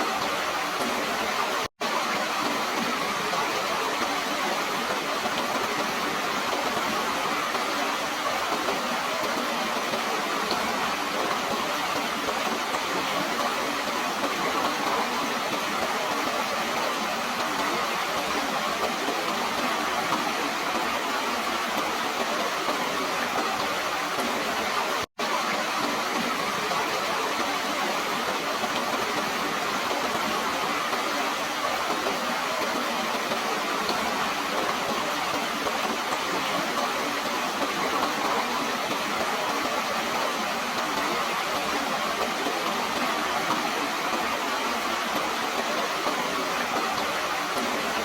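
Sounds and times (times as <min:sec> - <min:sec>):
flowing water rushing: 0:00.0 - 0:48.0.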